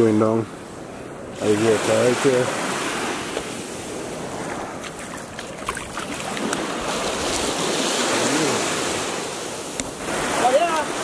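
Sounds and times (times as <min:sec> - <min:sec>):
small waves washing onto sand: 0:00.0 - 0:11.0.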